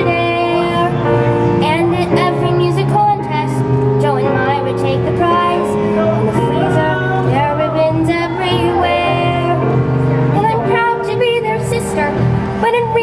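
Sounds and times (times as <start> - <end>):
girl singing: 0.0 - 1.0, 1.6 - 9.6, 10.3 - 13.0
instrumental accompaniment: 0.0 - 13.0.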